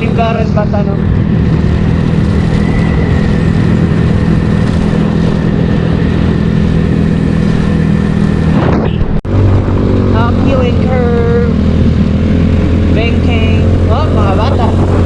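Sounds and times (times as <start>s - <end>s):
scooter engine running: 0.0s - 15.0s
wind and road noise: 0.0s - 15.0s.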